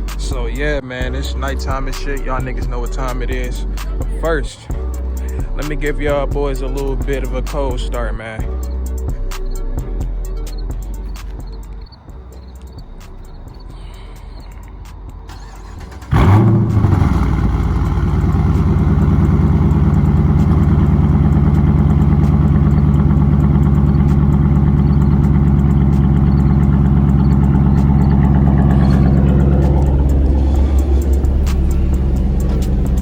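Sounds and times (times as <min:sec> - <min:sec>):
car engine starting and idling: 0:00.0 - 0:33.0.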